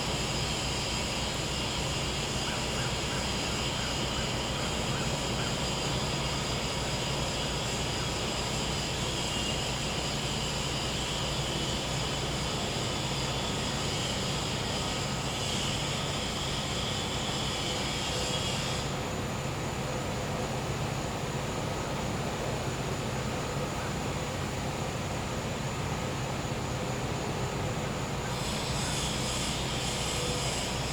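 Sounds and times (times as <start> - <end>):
generator humming: 0.0 - 30.9
high insect chorus: 0.0 - 30.9.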